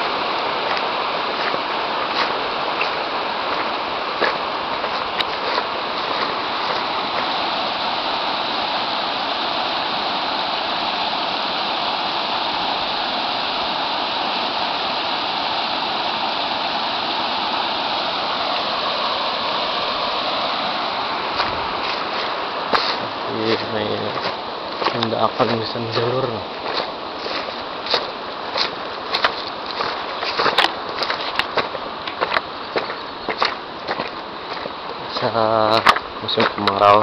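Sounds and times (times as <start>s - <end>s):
river rushing over rocks: 0.0s - 37.0s.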